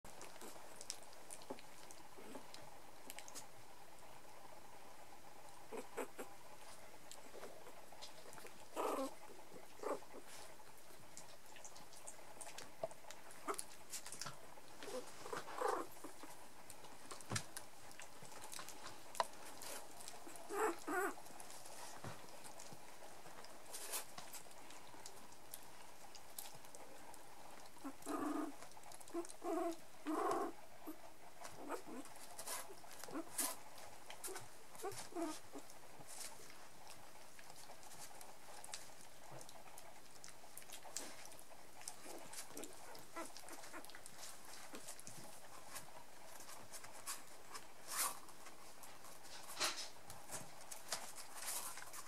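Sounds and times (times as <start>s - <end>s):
puppies whimpering and grunting: 0.1s - 3.4s, 5.4s - 51.8s.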